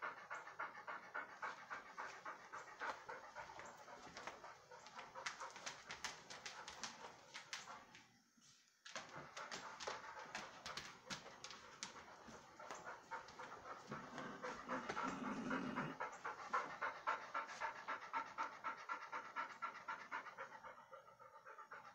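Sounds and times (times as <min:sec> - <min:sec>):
animal panting: 0:00.0 - 0:08.0, 0:08.9 - 0:21.9.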